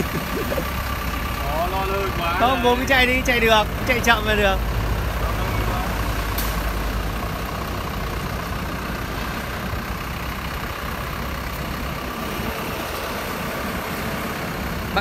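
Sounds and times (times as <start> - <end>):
forklift diesel engine running: 0.0 - 15.0.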